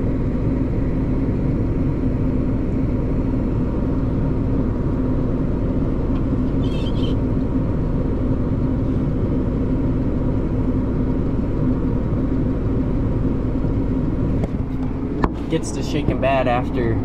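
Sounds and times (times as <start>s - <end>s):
steady hum: 0.0s - 17.0s
tractor engine droning: 0.0s - 17.0s.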